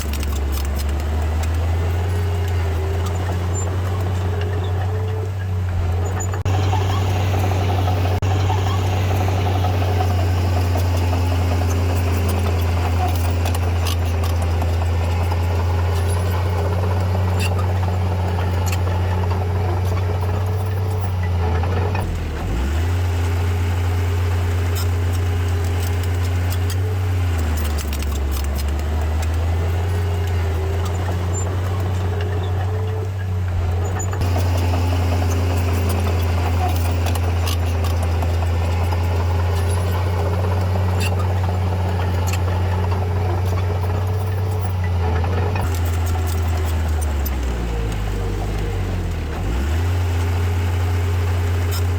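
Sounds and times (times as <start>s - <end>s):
bulldozer diesel engine droning: 0.0s - 51.9s.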